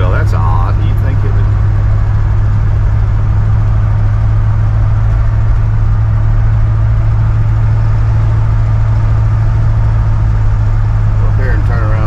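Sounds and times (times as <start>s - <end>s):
truck engine droning: 0.0s - 12.0s.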